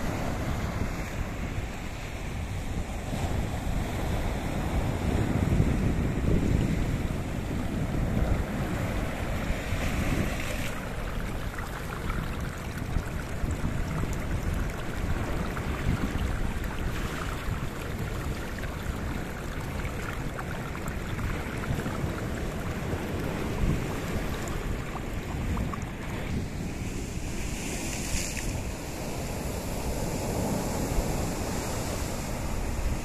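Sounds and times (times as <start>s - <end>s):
surf washing over rocks: 0.0s - 33.0s.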